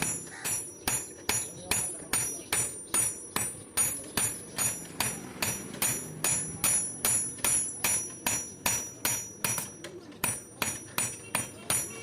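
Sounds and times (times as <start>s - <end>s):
hammer striking steel on anvil: 0.0s - 12.0s.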